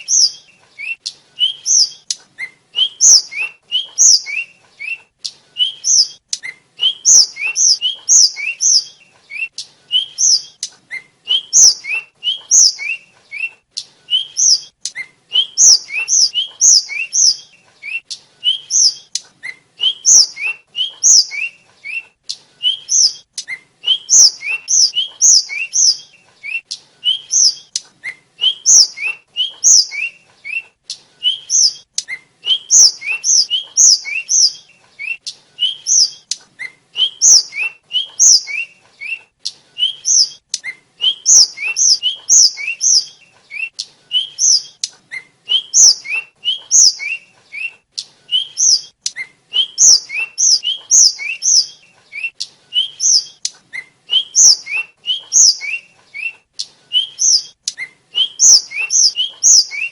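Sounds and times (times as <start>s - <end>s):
flycatcher singing: 0.0s - 36.4s, 37.0s - 39.2s, 39.8s - 59.9s.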